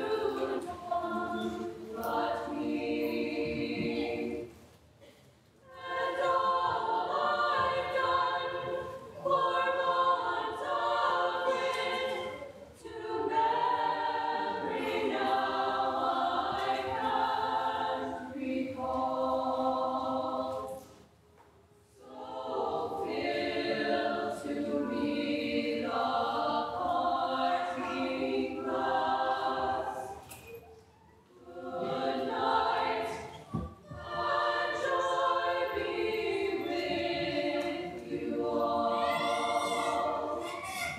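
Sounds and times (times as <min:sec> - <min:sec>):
women's choir singing: 0:00.0 - 0:21.2, 0:21.8 - 0:30.6, 0:31.2 - 0:40.9.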